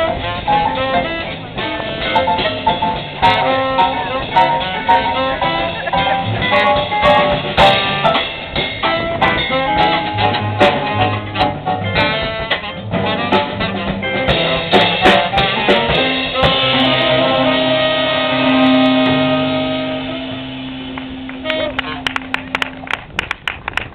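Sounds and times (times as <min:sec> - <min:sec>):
drum and cymbal hits: 0:00.0 - 0:21.5
jazz band playing: 0:00.0 - 0:23.5.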